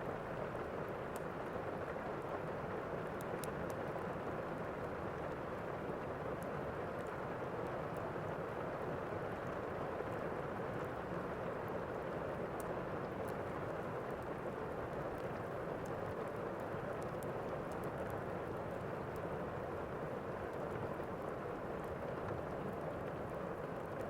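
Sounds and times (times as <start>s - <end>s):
steady rain hiss: 0.0s - 24.0s
faint crackles: 0.1s - 24.0s.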